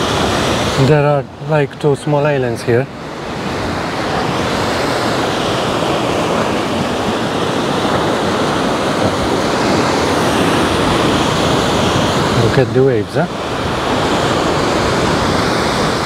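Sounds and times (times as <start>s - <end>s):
surf breaking on rocks: 0.0s - 16.0s.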